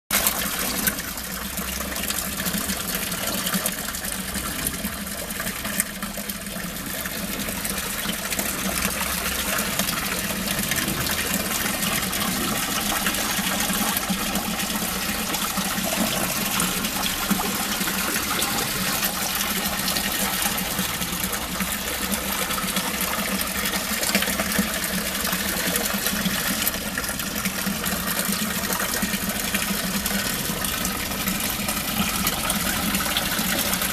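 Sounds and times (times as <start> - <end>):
water splashing into a tank: 0.1 - 33.9.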